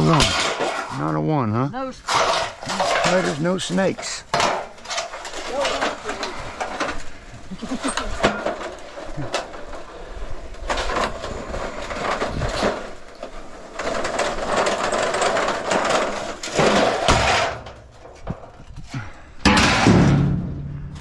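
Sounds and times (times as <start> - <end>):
metal scraping: 0.0 - 21.0
scrap metal clanking: 0.0 - 21.0.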